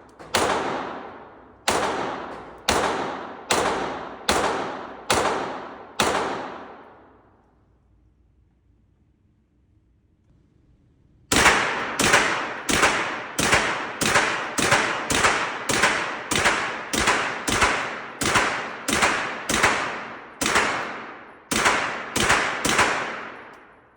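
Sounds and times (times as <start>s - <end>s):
gunshots with echo: 0.0s - 7.2s, 11.3s - 23.9s.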